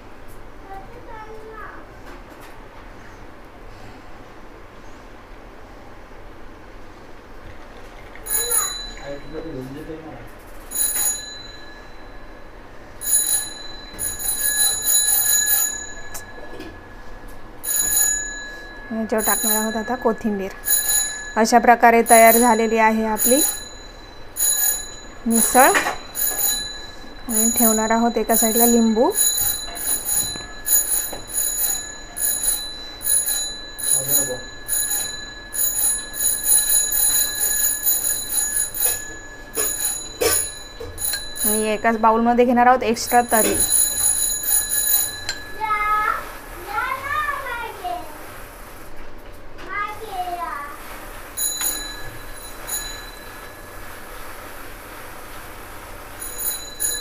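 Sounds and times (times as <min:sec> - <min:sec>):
bright metallic ringing: 0:08.2 - 0:48.2, 0:49.8 - 0:57.0.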